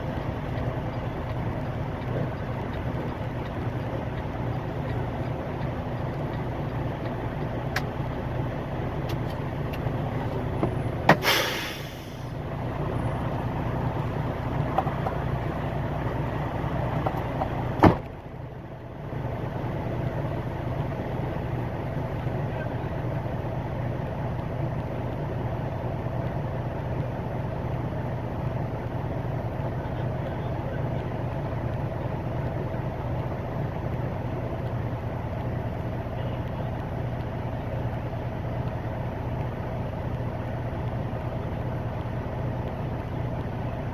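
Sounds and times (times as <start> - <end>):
truck engine and road hum: 0.0 - 43.9.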